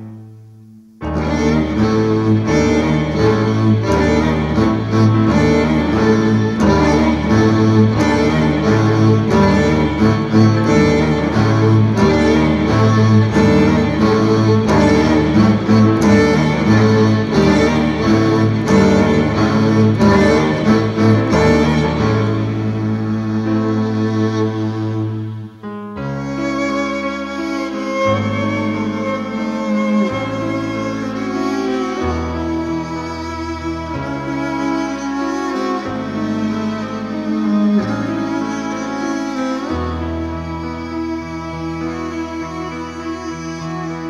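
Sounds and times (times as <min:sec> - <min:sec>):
dark chamber string music: 0:00.0 - 0:44.0.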